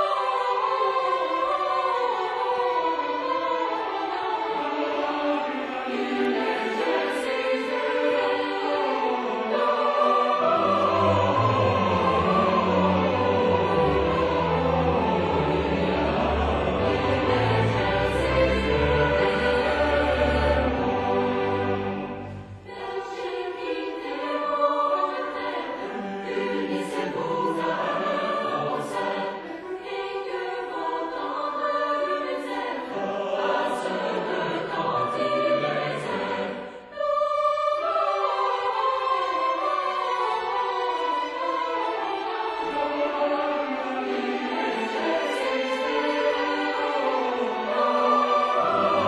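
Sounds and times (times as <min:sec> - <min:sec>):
choir singing a carol: 0:00.0 - 0:49.0
string orchestra: 0:00.0 - 0:49.0.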